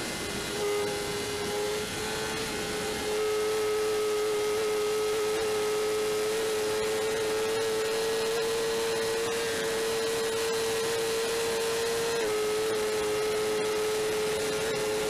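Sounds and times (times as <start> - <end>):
motorcycle engine high-pitched whine: 0.0 - 15.0.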